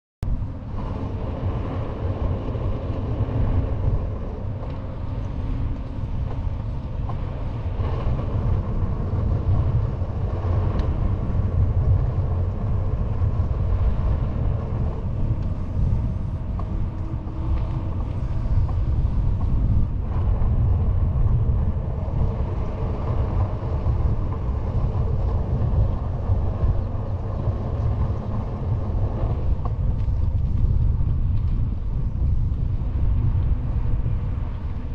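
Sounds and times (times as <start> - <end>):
wind rushing on microphone: 0.2 - 34.9
bicycle tyre rolling on asphalt: 0.3 - 34.9.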